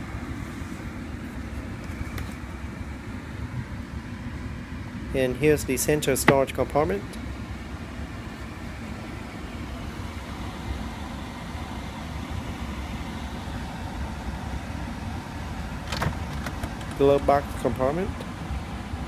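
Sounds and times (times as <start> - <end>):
car cabin rumble and hiss: 0.0 - 19.0.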